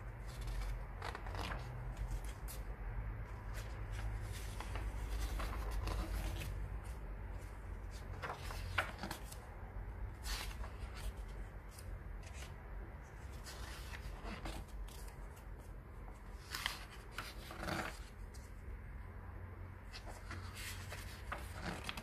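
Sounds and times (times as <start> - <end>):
low steady hum: 0.0 - 22.0
pages turning: 0.1 - 2.7, 3.3 - 18.6, 19.9 - 22.0.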